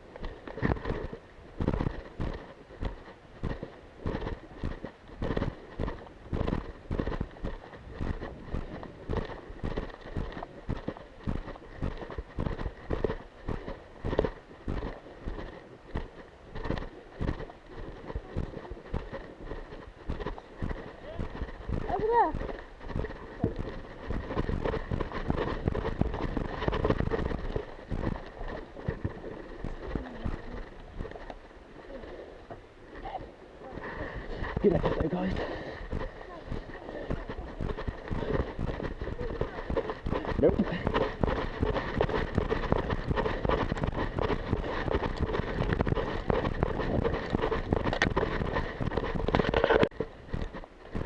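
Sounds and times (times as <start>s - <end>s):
footsteps running on ground: 0.0s - 31.4s, 33.7s - 51.0s
wind buffeting microphone: 0.0s - 51.0s
knocks and rattles of gear: 0.2s - 31.4s, 34.2s - 51.0s.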